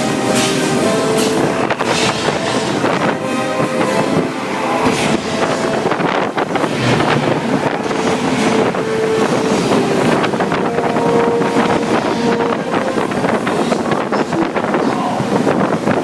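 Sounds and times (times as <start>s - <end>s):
loud wind: 0.0s - 16.0s
rushing splashing water: 0.0s - 16.0s.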